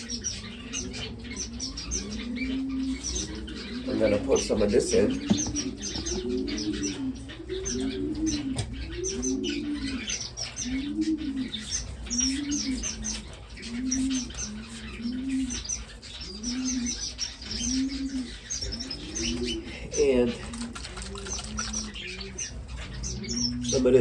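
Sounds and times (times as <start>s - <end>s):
finches chirping: 0.0s - 24.0s.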